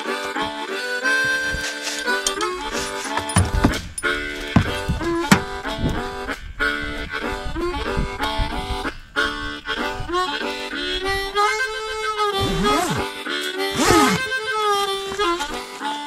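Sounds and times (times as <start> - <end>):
harmonica playing bluesy tune: 0.0 - 16.0.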